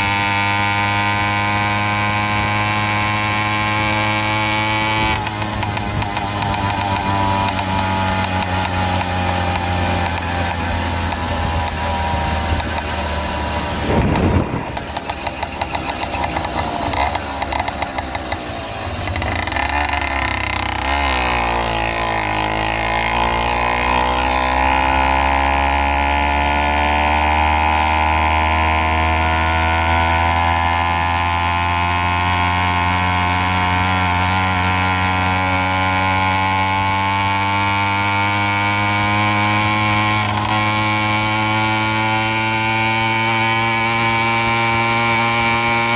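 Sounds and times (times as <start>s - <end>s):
small bicycle engine running: 0.0s - 45.9s.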